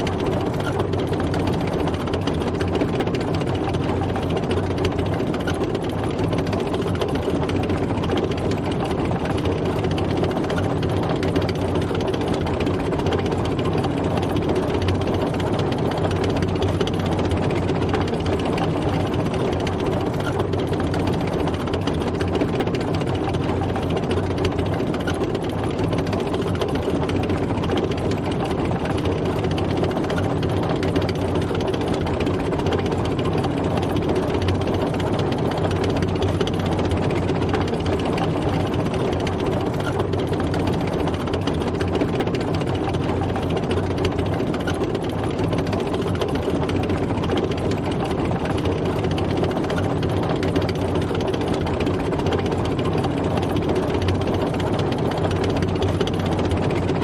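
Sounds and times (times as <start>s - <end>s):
tank engine running: 0.0s - 57.0s.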